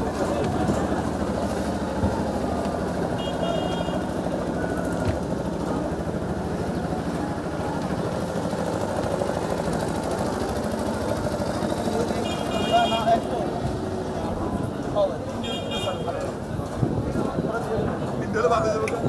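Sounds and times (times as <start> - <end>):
boat engine droning: 0.0 - 16.8.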